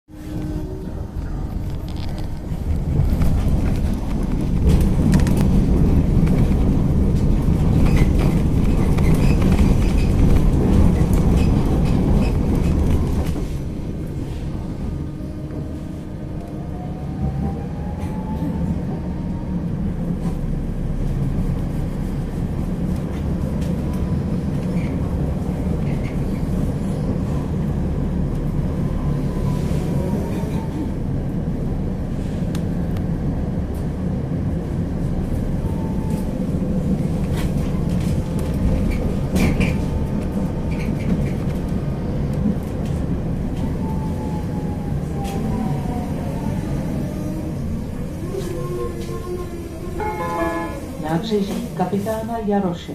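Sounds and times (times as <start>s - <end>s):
tram low rumble: 0.0s - 52.9s.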